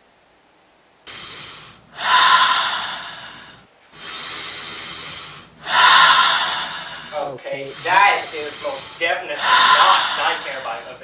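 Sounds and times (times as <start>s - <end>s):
heavy breathing: 1.1s - 11.0s.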